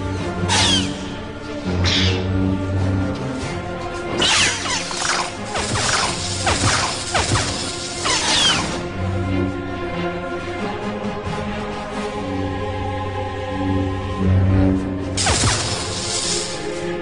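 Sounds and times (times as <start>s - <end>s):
dramatic background music: 0.0s - 17.0s.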